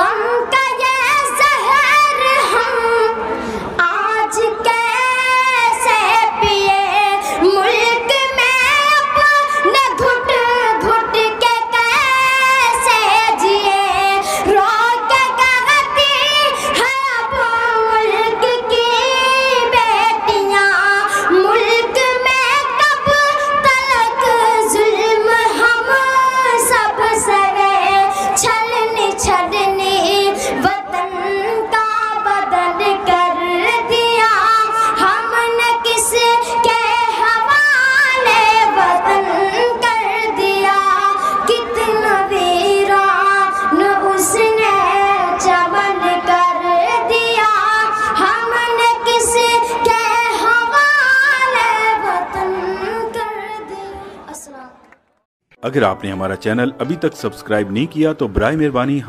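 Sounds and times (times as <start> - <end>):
boy singing unaccompanied: 0.0 - 3.2, 3.8 - 54.7.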